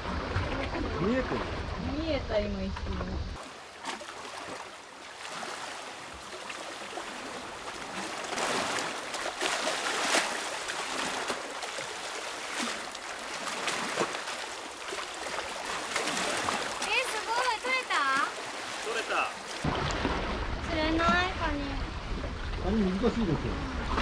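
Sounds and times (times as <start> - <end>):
waves splashing against concrete: 0.0 - 24.0.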